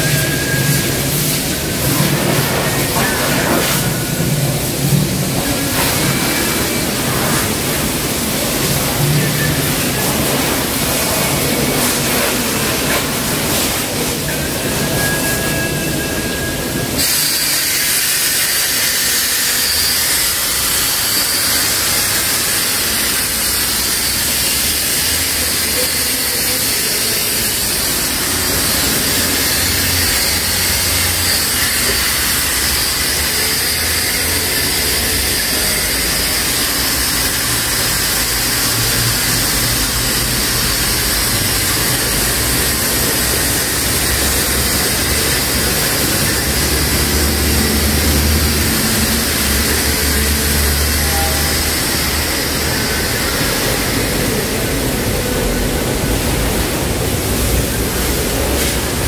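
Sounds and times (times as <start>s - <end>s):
car wash equipment hissing: 0.0s - 59.0s.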